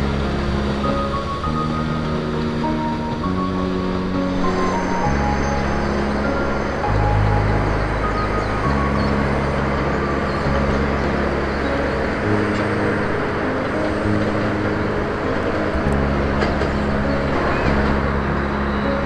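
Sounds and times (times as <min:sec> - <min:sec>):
background music with low bass: 0:00.0 - 0:19.0.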